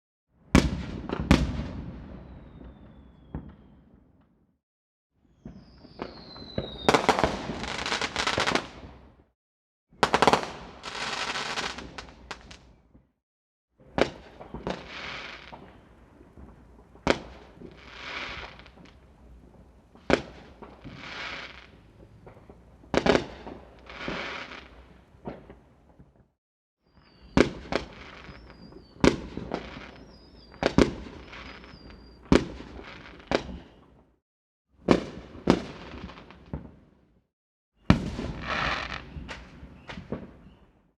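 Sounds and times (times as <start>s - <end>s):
fireworks banging and crackling: 0.6s - 4.4s, 5.4s - 9.1s, 9.9s - 13.1s, 13.8s - 26.3s, 27.0s - 34.0s, 34.8s - 36.9s, 37.9s - 40.7s.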